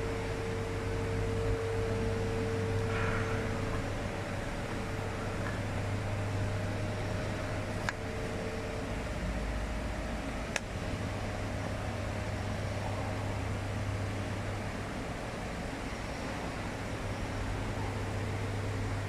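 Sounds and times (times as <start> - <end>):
steady machine hum with hiss: 0.0 - 19.0.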